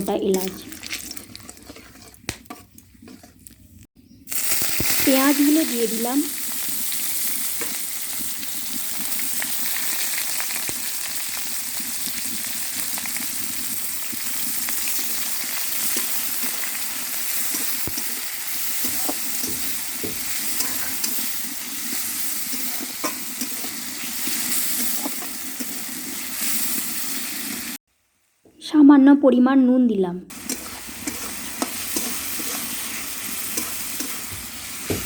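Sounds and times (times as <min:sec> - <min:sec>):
onions sizzling in oil: 0:00.0 - 0:02.8, 0:04.2 - 0:28.4, 0:30.3 - 0:35.0.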